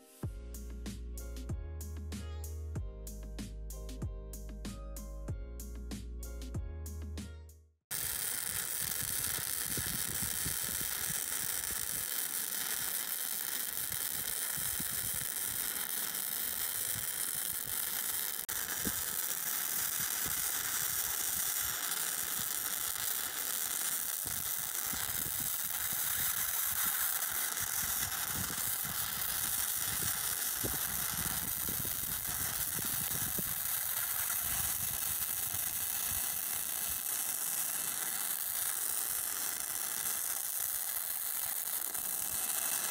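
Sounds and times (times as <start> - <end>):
welding arc crackling sizzle: 7.9 - 42.9.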